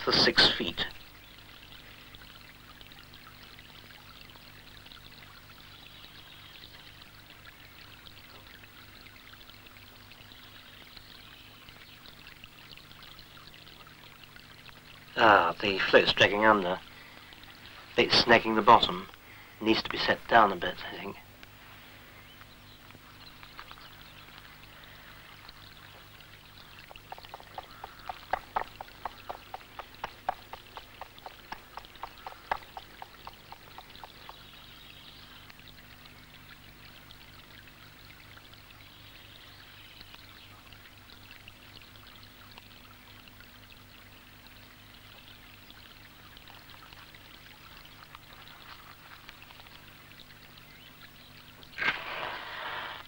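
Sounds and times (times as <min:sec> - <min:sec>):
low steady hum: 0:00.0 - 0:53.0
river water running: 0:00.0 - 0:53.0.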